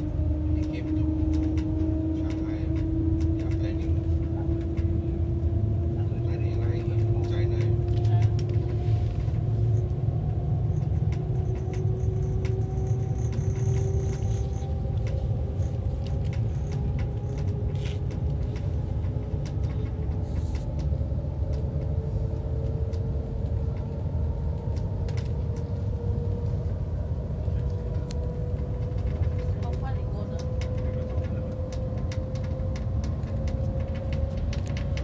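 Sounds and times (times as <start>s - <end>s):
faint whining tones: 0.0s - 35.0s
train rumbling at speed: 0.0s - 35.0s.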